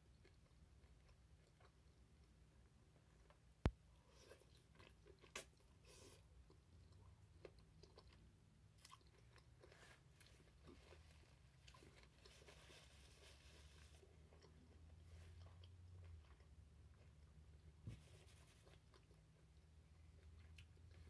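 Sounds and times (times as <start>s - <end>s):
close-miked chewing: 0.0s - 3.4s, 4.0s - 17.8s, 18.5s - 21.0s.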